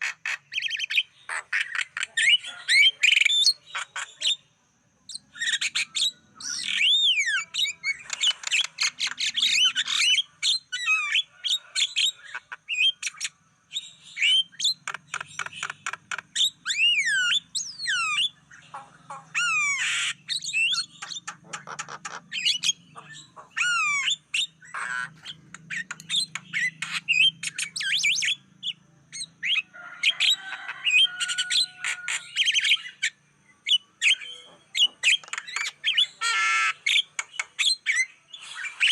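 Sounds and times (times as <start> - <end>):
myna bird song: 0.0 - 38.9.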